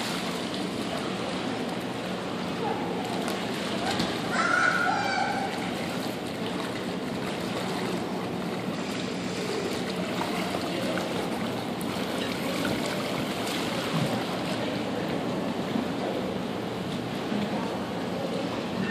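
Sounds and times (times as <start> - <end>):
pool water sloshing: 0.0 - 18.9.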